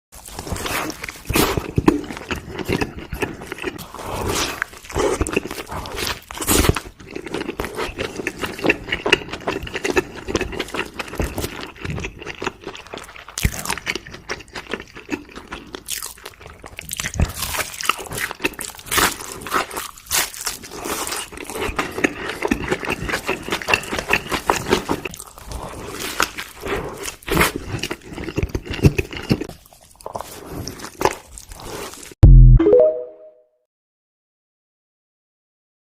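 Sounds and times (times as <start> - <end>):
chewing and crunching food: 0.1 - 32.2.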